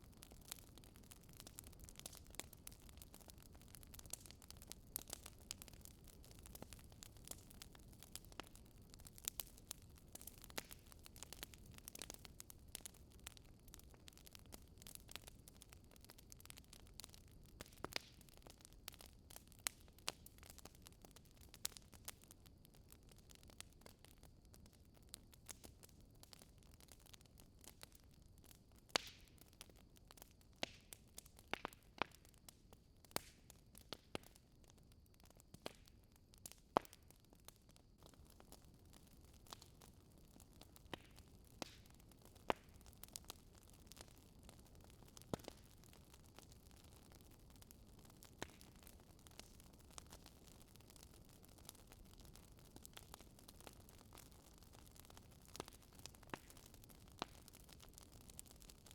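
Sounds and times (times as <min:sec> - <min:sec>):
wood fire crackling and popping: 0:00.0 - 0:58.9.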